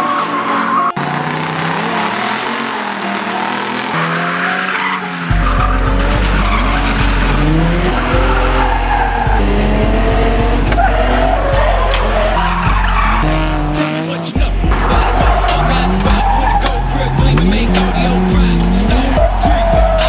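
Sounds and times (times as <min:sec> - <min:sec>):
car engines revving: 0:00.0 - 0:20.0
tyres skidding and squealing: 0:00.0 - 0:20.0.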